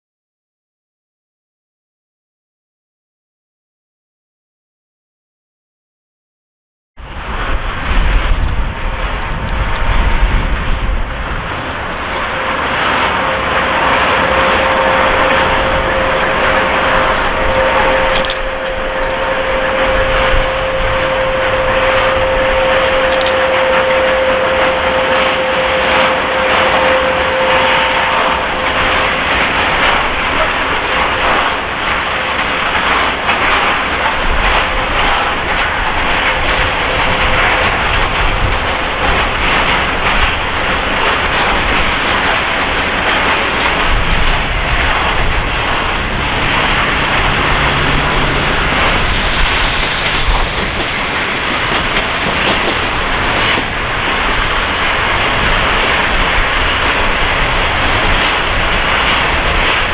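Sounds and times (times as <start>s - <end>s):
train wheels clattering over rail joints: 7.4s - 59.9s.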